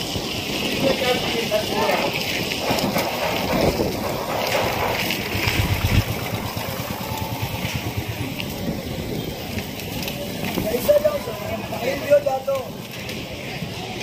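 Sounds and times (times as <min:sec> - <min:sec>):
passing traffic: 0:00.0 - 0:14.0
wind rumbling on microphone: 0:00.0 - 0:14.0.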